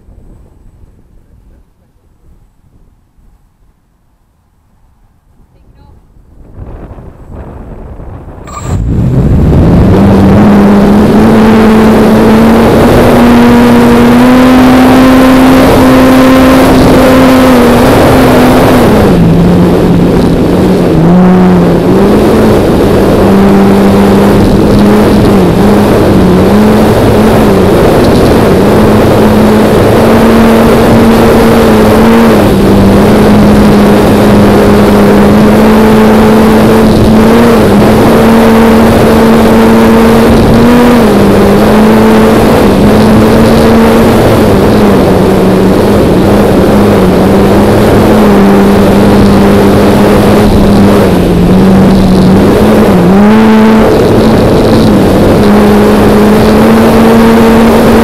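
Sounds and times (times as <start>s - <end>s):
rushing air: 6.1s - 14.9s, 15.6s - 58.0s.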